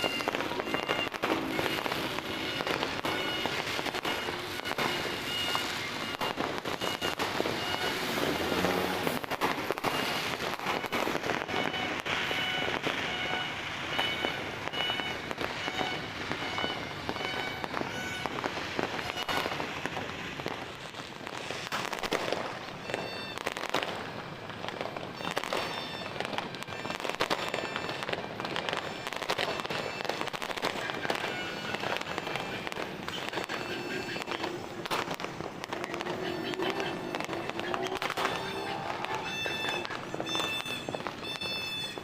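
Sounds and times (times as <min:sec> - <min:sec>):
fireworks and firecrackers banging: 0:00.0 - 0:42.0.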